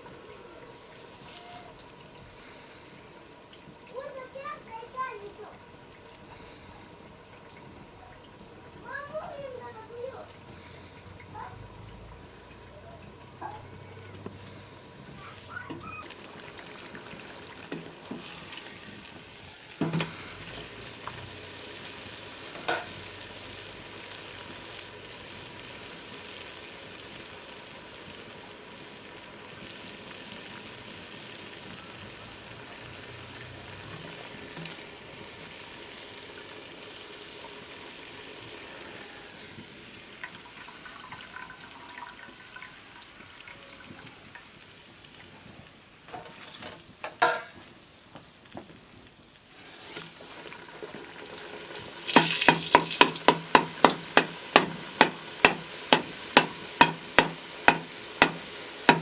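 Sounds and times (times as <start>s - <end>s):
food frying with sizzle: 0.0s - 59.0s.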